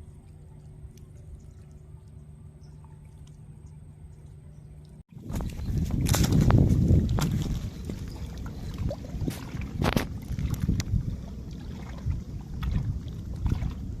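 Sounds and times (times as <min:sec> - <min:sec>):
rumble of water and wind: 0:00.0 - 0:14.0.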